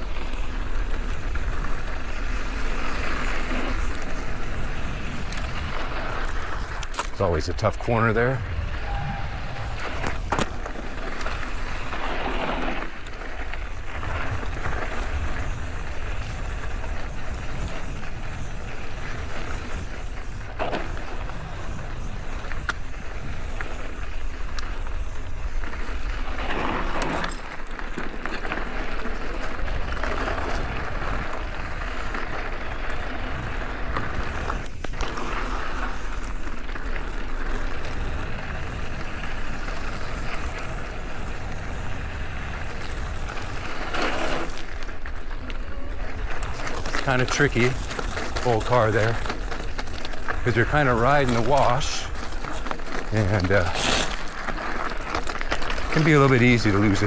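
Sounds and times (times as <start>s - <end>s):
bike rattling: 0.0s - 57.0s
bike tyres on gravel: 0.0s - 57.0s.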